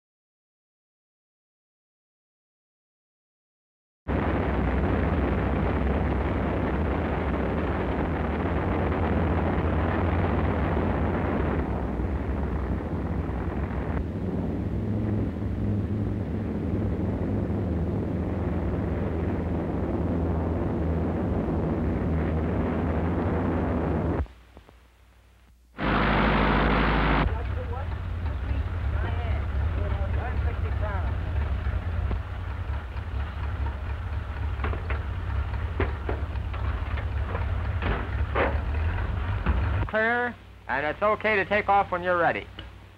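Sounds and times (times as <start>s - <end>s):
piston aircraft engines rumbling: 4.1s - 24.3s, 25.8s - 42.9s.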